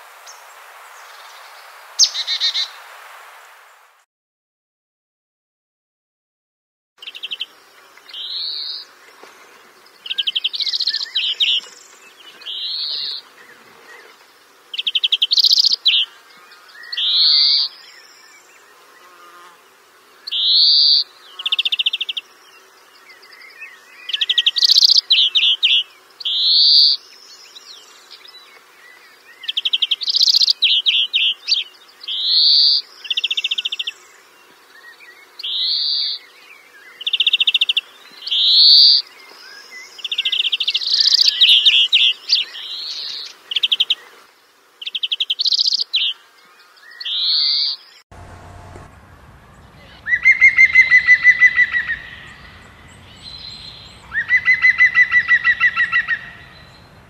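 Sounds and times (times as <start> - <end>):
songbird singing: 0.2 - 2.8, 7.0 - 57.0.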